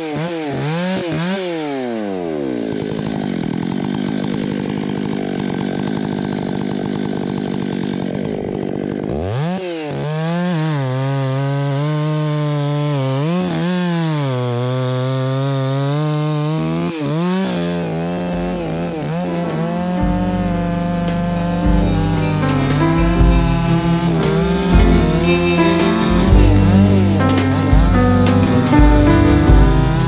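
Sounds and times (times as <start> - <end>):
chainsaw cutting log: 0.0 - 30.0.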